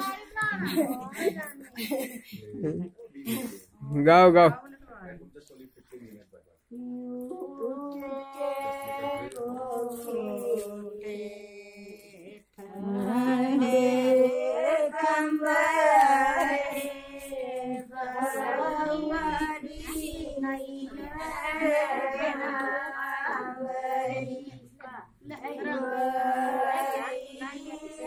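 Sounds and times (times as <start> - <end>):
women singing together: 0.0 - 2.1, 6.7 - 28.0.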